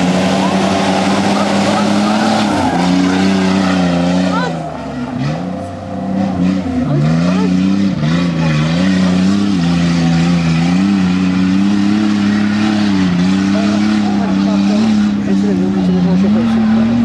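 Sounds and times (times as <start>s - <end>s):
vehicle engine revving hard: 0.0s - 17.0s.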